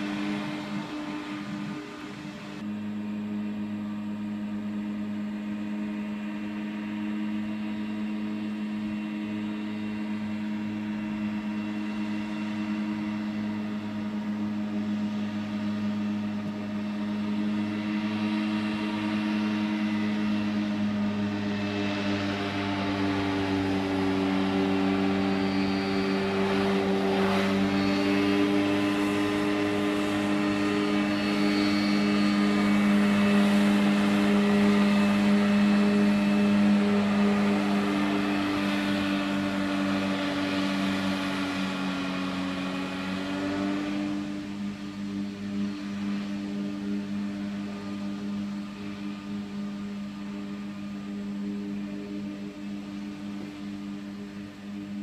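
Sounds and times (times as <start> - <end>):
hovercraft engine droning: 0.0 - 55.0.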